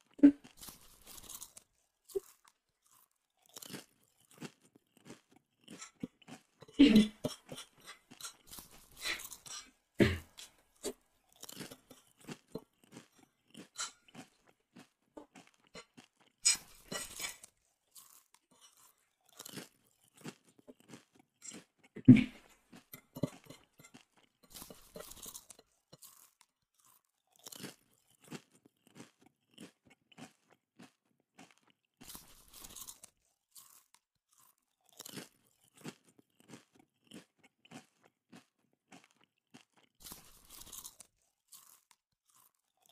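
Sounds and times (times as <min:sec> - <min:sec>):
chewing and crunching: 0:00.0 - 0:42.9.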